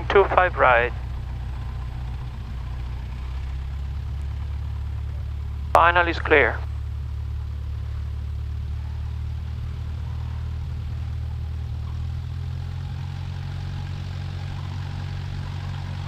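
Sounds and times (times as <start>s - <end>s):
light aircraft engine idling: 0.0s - 16.0s.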